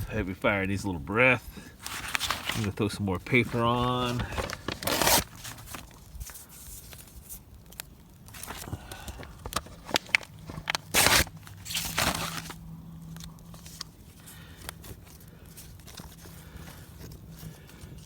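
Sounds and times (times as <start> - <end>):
paper crumpling and tearing: 1.8 - 18.0.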